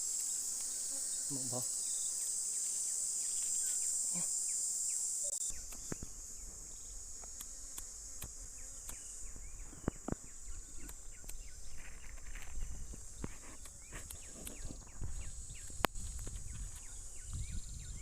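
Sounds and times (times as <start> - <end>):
insects singing: 0.0 - 18.0.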